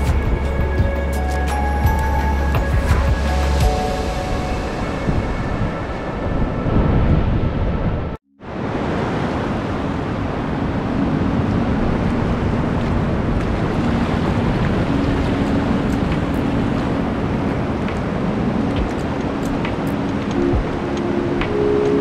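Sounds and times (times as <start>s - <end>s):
surf washing over sand and rocks: 2.0s - 22.0s.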